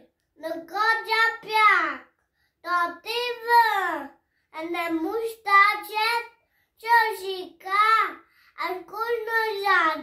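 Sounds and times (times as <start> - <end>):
boy reciting a poem: 0.0 - 10.0.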